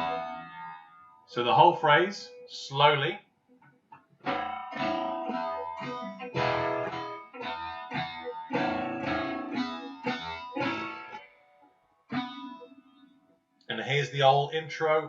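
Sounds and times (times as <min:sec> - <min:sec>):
guitar riff picked notes: 0:00.0 - 0:03.1, 0:03.9 - 0:13.2.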